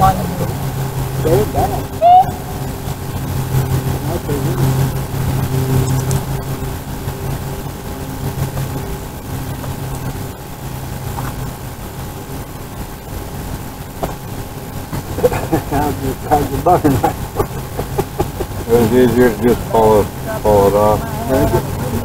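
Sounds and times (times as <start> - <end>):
motor engine humming: 0.0 - 22.0.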